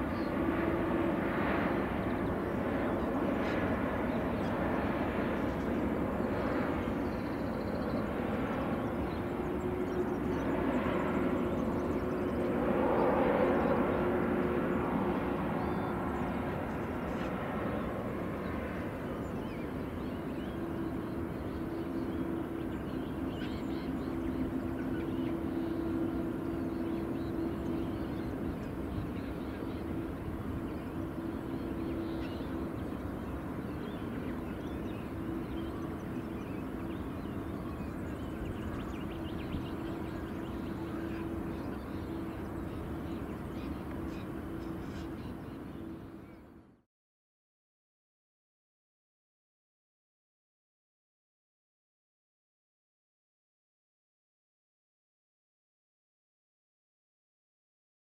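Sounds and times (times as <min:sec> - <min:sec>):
distant jet engines rumbling: 0:00.0 - 0:46.6.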